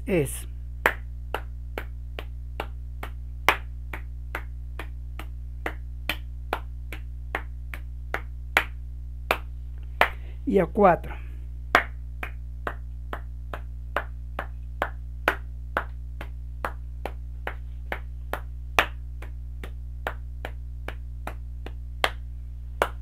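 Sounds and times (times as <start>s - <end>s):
hand claps in steady rhythm: 0.8s - 10.3s, 11.7s - 23.0s.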